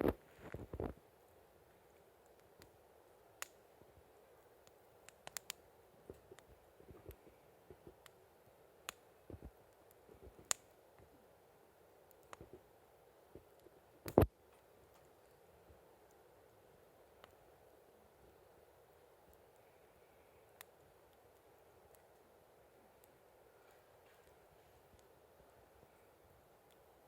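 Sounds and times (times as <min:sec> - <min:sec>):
campfire crackling and popping: 0:00.0 - 0:27.0
steady rush of burning: 0:00.0 - 0:27.0.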